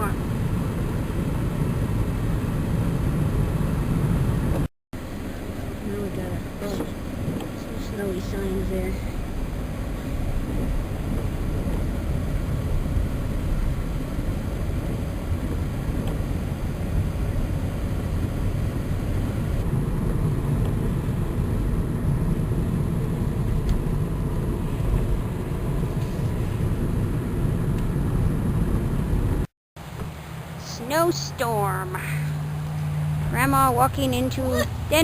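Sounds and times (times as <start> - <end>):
car driving rumble from inside: 0.0 - 35.0.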